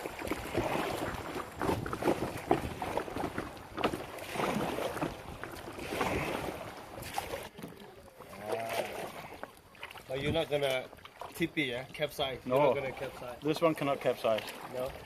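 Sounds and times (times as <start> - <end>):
paddle strokes splashing: 0.0 - 15.0
running water: 0.0 - 15.0.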